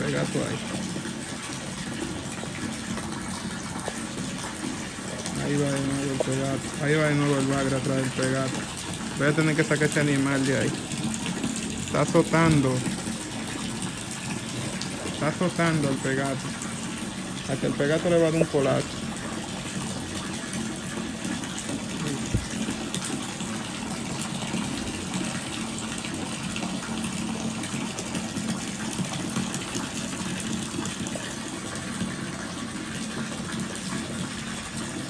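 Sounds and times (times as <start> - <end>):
water pouring into pond: 0.0 - 35.0.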